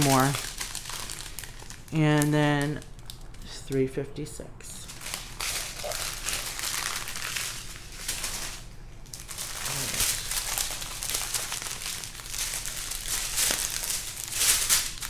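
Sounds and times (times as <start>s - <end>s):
plastic bags crinkling: 0.0s - 3.6s, 4.8s - 15.0s.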